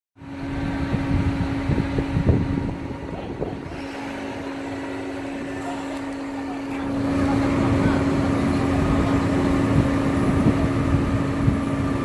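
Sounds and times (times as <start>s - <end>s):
diesel engine humming: 0.2s - 12.0s.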